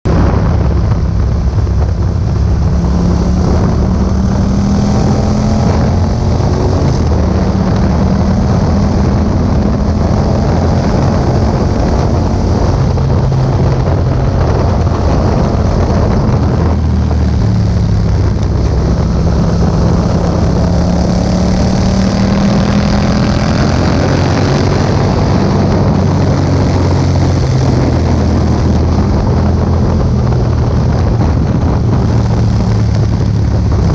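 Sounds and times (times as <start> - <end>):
wind noise on microphone: 0.0 - 33.9
motorcycle engine revving: 0.1 - 33.9.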